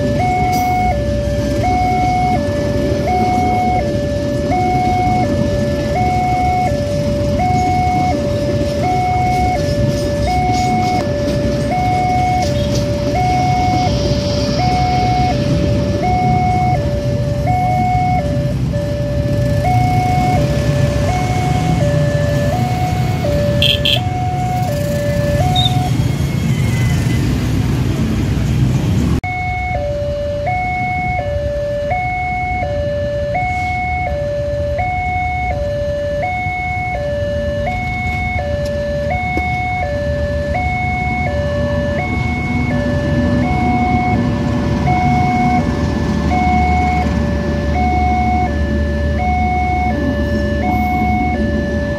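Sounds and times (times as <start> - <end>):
two-tone crossing alarm: 0.0 - 27.5, 29.2 - 51.9
diesel locomotive engine: 0.0 - 51.9
passing train rumble: 0.0 - 51.9
traffic: 0.0 - 51.9.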